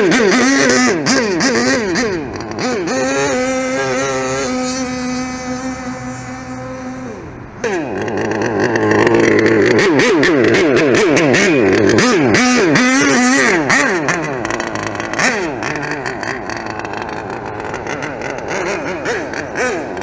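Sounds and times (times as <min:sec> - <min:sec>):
rc truck gasoline engine revving: 0:00.0 - 0:20.0.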